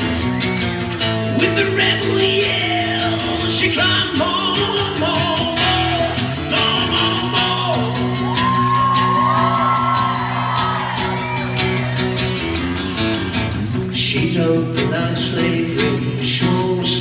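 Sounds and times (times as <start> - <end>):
drums and bass: 0.0 - 17.0.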